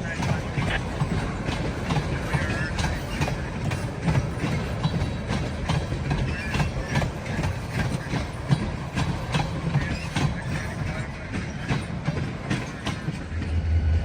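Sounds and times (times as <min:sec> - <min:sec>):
wheels clicking over rail joints: 0:00.0 - 0:13.4
train low rumble: 0:00.0 - 0:14.0.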